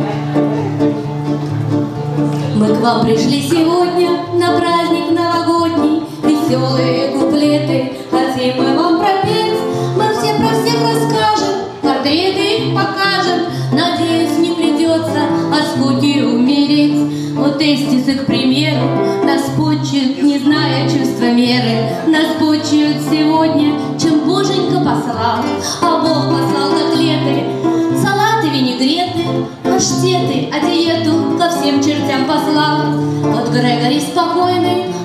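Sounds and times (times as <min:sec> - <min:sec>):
strummed acoustic guitar: 0:00.0 - 0:35.0
woman singing into a microphone: 0:02.4 - 0:35.0.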